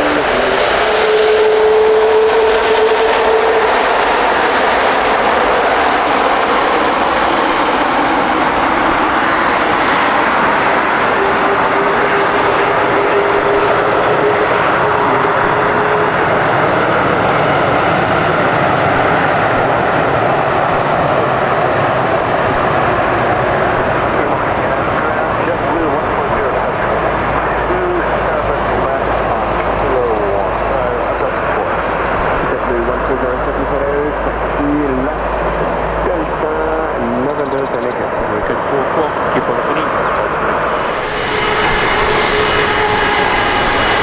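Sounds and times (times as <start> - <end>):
faint whine: 0.0 - 44.0
jet engines running: 0.0 - 44.0.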